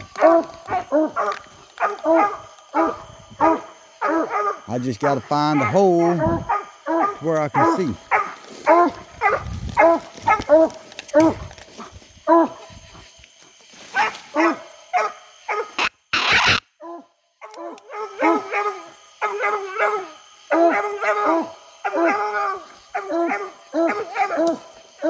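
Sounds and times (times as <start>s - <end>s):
hounds barking: 0.0s - 12.7s, 13.9s - 25.0s.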